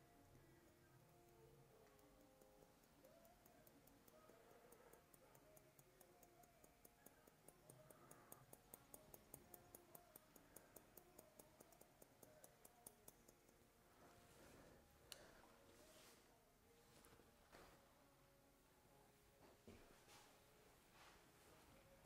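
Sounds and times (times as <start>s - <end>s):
faint background music: 0.0s - 22.0s.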